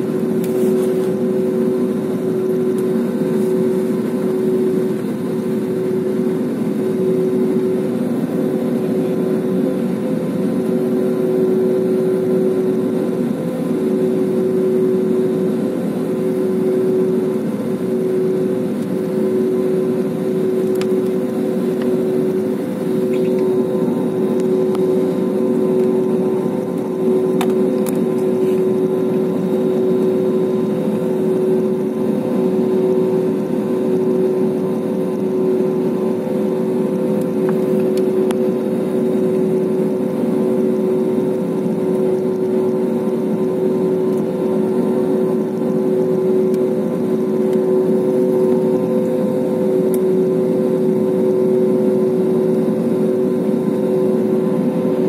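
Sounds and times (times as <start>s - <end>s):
jet engines idling in cabin: 0.0s - 55.0s.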